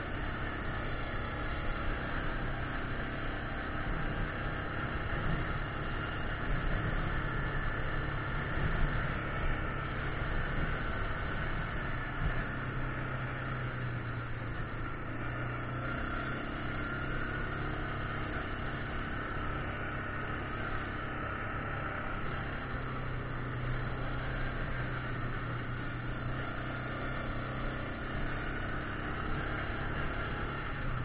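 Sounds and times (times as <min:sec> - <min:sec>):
atv engine humming: 0:00.0 - 0:31.0.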